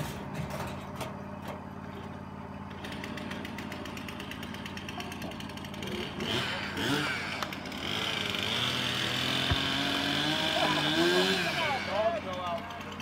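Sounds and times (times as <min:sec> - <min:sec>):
sawmill running: 0:01.1 - 0:13.0.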